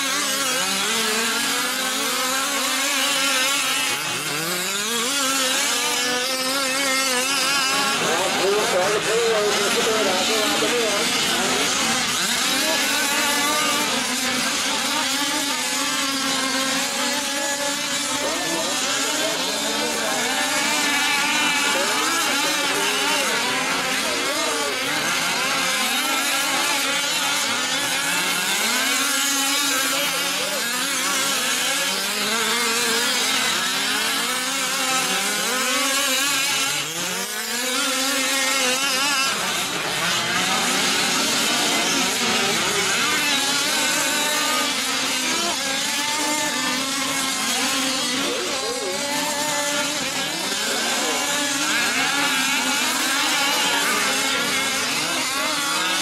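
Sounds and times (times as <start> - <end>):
small two-stroke engines buzzing: 0.0 - 56.0.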